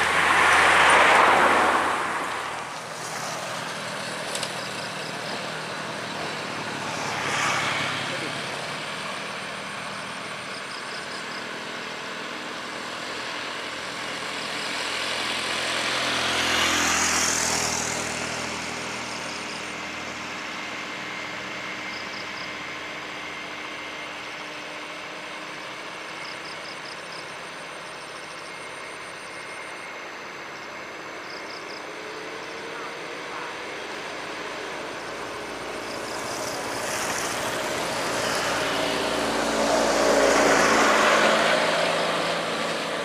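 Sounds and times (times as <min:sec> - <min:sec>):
passing vehicle traffic: 0:00.0 - 0:43.0.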